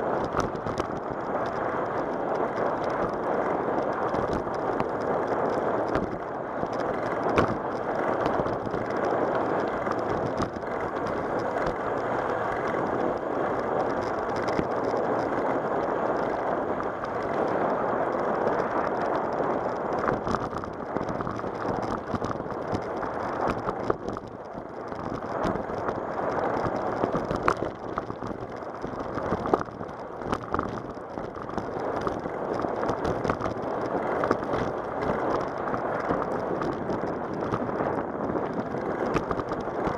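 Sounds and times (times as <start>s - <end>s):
bicycle tyres rolling on asphalt: 0.0s - 39.9s
wind on microphone: 0.0s - 39.9s.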